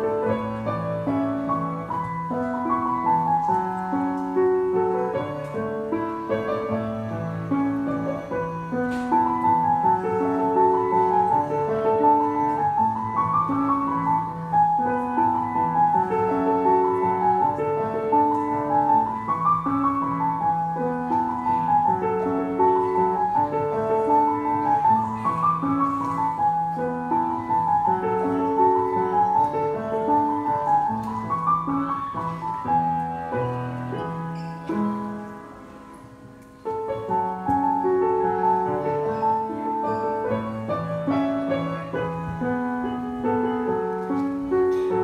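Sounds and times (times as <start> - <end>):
grand piano playing: 0.0 - 45.0.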